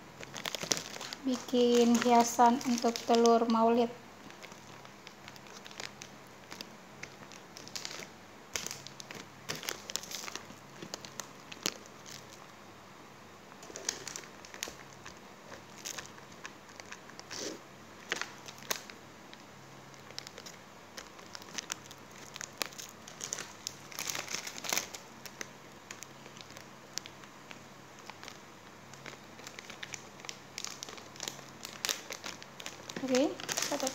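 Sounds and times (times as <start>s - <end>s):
plastic packets crinkling: 0.0s - 12.5s, 13.6s - 33.9s.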